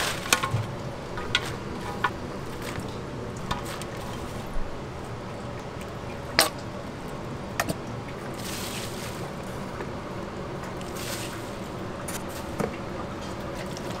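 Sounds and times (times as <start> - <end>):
kitchen hum: 0.0 - 14.0.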